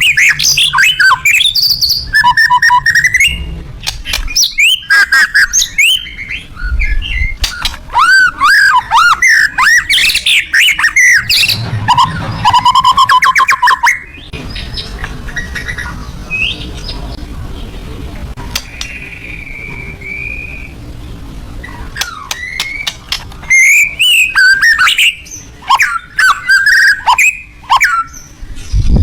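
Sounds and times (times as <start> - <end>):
bird singing whistles and trills: 0.0 - 17.0, 18.6 - 20.9, 21.6 - 28.8.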